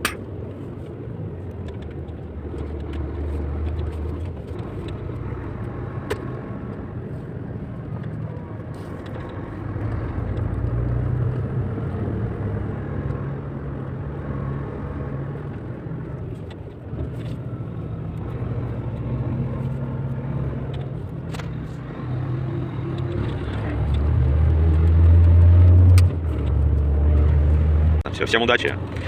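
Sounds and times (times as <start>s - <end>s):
truck diesel engine drone: 2.2s - 29.0s.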